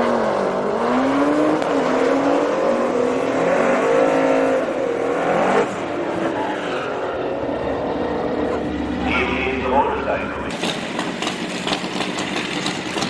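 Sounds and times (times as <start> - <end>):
drag-racing engine revving: 0.0 - 13.0.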